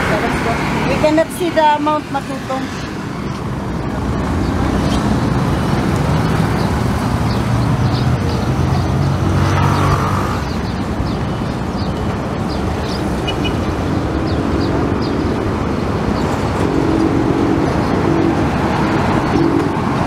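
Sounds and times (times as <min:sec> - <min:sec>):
passing vehicle engines rumbling: 0:00.0 - 0:20.0.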